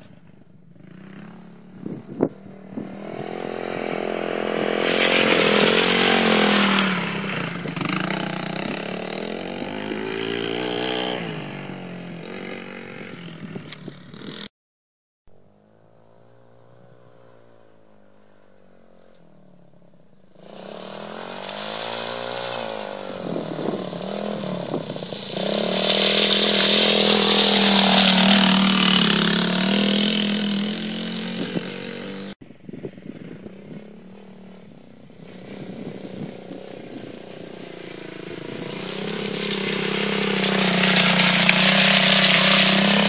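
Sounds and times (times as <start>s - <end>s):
quad bike engine revving: 0.7s - 14.5s, 20.3s - 32.4s, 33.0s - 43.0s.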